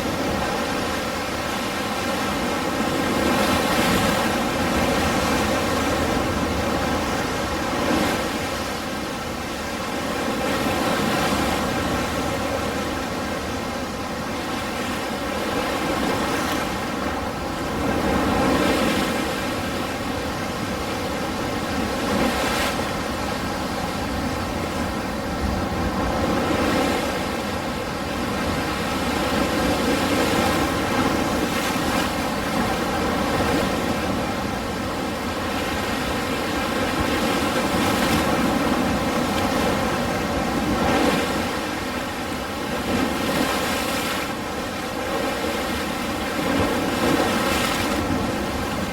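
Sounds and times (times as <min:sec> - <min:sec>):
ocean surf breaking waves: 0:00.0 - 0:48.9.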